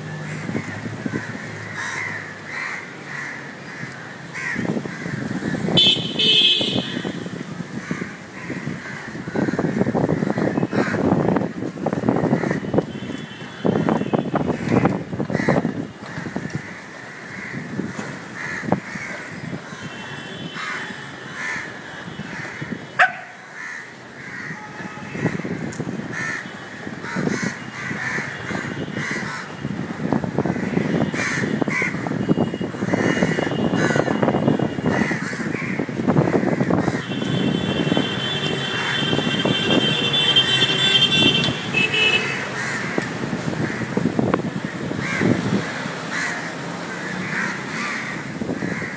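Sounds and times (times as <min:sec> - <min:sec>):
crows cawing: 0:00.2 - 0:06.4, 0:07.7 - 0:11.1, 0:12.2 - 0:12.7, 0:14.5 - 0:29.6, 0:30.5 - 0:32.1, 0:32.8 - 0:34.2, 0:34.9 - 0:37.4, 0:38.0 - 0:44.1, 0:44.8 - 0:45.4, 0:46.0 - 0:48.9.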